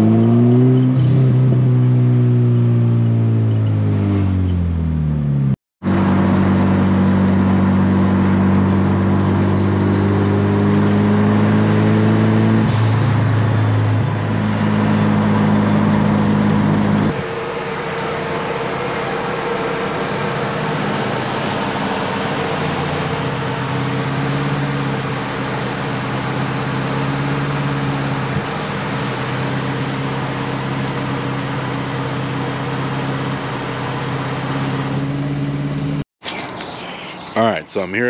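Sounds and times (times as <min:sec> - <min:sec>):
car engine drone from cabin: 0:00.0 - 0:38.0.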